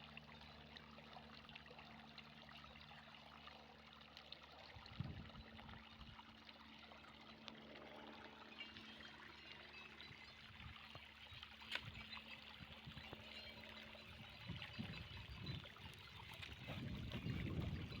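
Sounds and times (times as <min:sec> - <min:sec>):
water flowing and trickling: 0:00.0 - 0:18.0.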